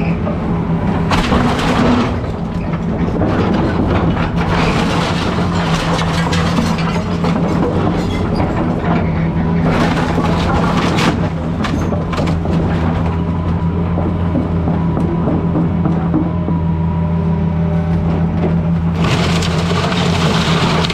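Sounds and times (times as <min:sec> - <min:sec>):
excavator diesel engine: 0:00.0 - 0:20.9
debris breaking knocks and crunches: 0:00.9 - 0:16.2, 0:18.8 - 0:20.9.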